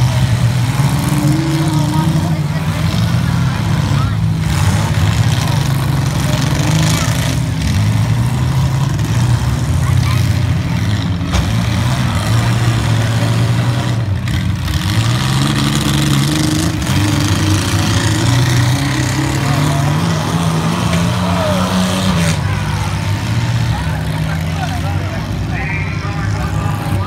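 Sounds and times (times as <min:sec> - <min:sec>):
car engines revving unevenly: 0:00.0 - 0:27.0.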